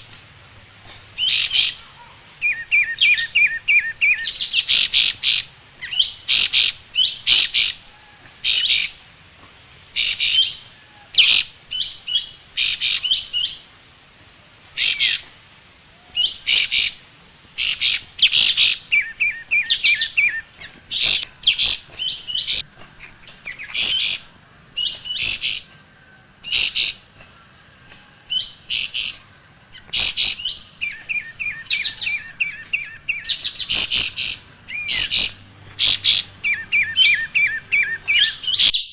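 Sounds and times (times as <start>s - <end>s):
bird chirping: 0.8s - 9.0s, 10.0s - 13.7s, 14.8s - 15.3s, 16.0s - 17.0s, 17.6s - 25.8s, 26.4s - 38.9s.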